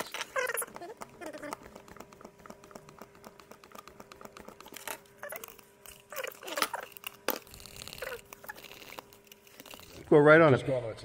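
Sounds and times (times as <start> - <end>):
wooden stick stirring in cup: 0.0 - 10.1.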